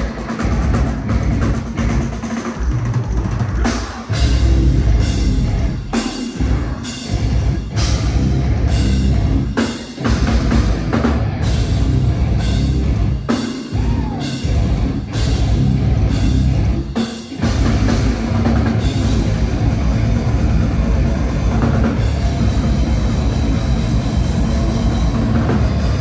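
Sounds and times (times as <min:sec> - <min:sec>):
drum kit and bass drum: 0:00.0 - 0:26.0
heavy metal band playing live: 0:00.0 - 0:26.0.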